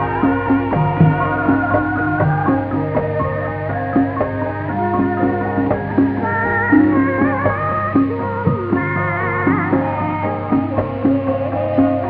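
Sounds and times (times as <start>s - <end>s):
gamelan bronze keyed instruments: 0.0s - 12.0s
low sustained tone: 0.0s - 12.0s.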